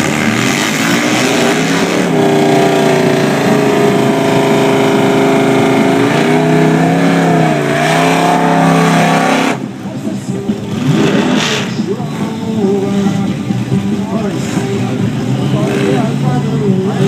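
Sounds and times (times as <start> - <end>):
drag racing engines at full throttle: 0.0 - 17.0.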